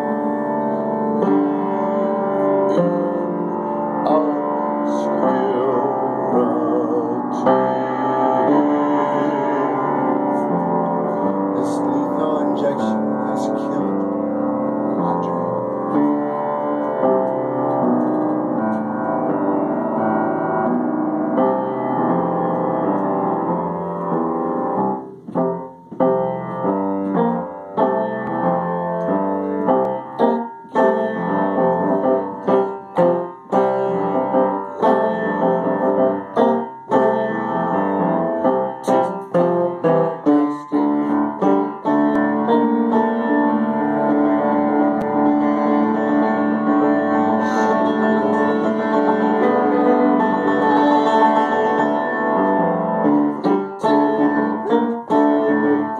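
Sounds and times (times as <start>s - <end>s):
instrumental keyboard music: 0.0s - 55.9s.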